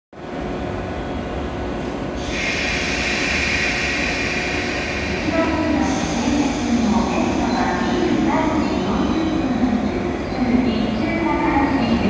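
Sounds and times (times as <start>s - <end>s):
electric train hum: 0.2s - 12.0s.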